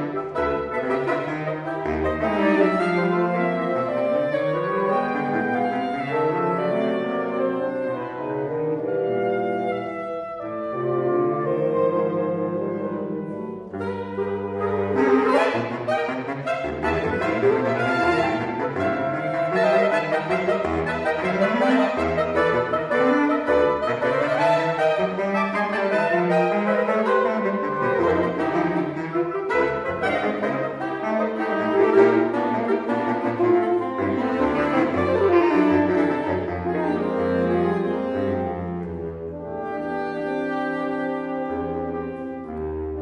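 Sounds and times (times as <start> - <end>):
saxophone quartet playing a tango: 0.0 - 43.0.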